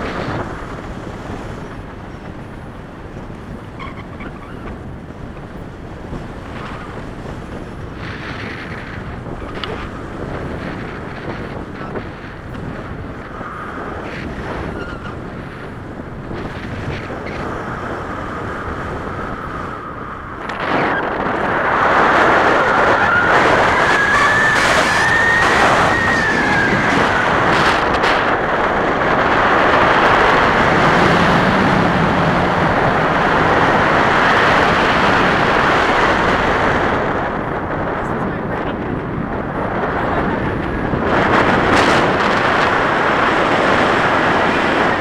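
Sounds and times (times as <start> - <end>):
wind rushing over microphone: 0.0 - 45.0.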